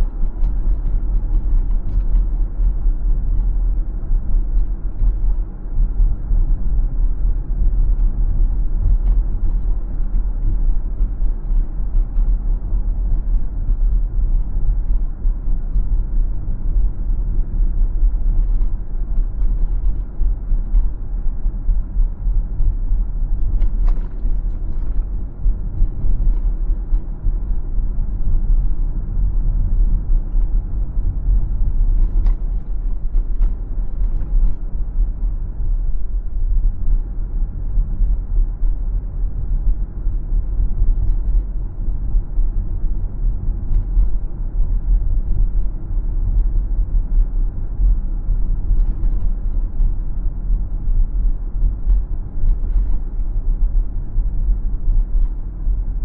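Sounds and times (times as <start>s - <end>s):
car driving road and engine noise: 0.0s - 56.0s.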